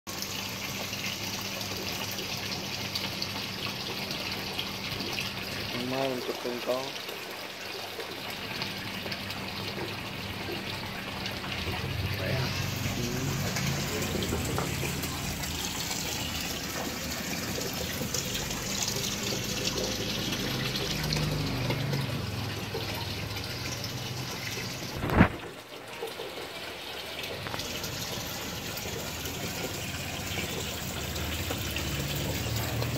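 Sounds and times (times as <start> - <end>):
running and splashing water: 0.1 - 32.9.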